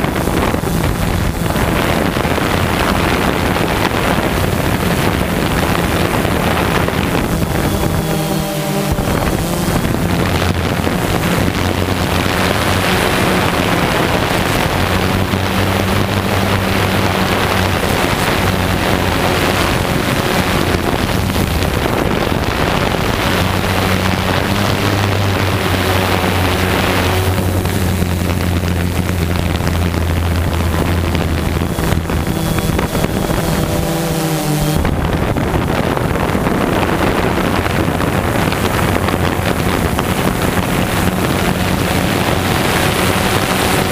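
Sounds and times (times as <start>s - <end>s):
drone propellers humming: 0.0s - 43.9s
wind over microphone: 0.0s - 43.9s.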